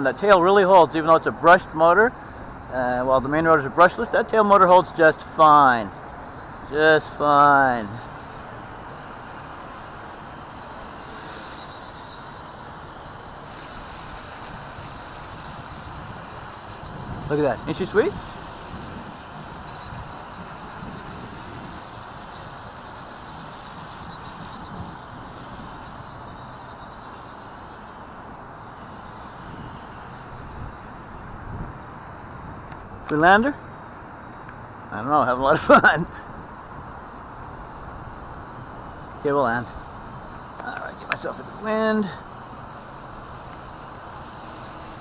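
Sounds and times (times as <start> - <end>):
rc helicopter rotor whir: 0.0 - 45.0.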